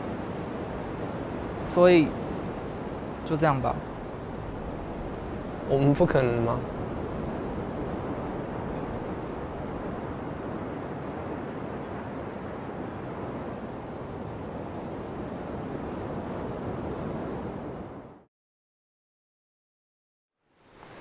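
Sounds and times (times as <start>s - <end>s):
ocean surf on a beach: 0.0s - 18.3s, 20.6s - 21.0s
wind: 0.0s - 18.3s, 20.4s - 21.0s.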